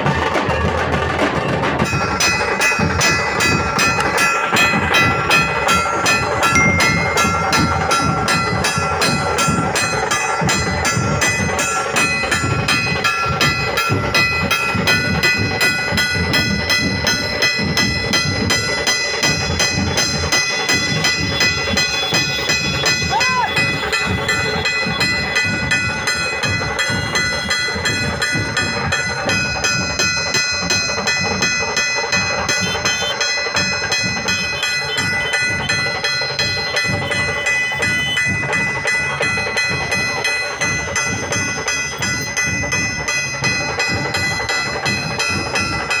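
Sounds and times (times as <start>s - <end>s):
drums beating fast rhythm: 0.0s - 46.0s
metallic ringing: 1.8s - 46.0s.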